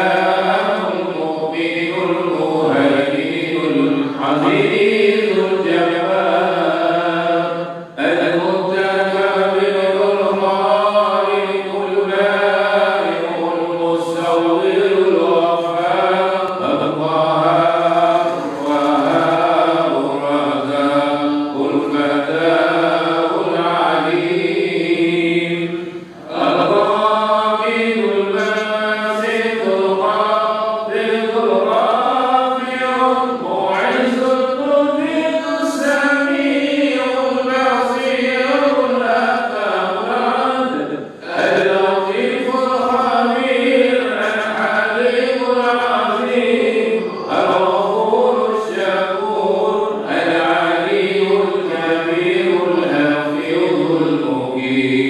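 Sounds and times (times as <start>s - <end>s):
man chanting through a microphone: 0.0s - 55.0s.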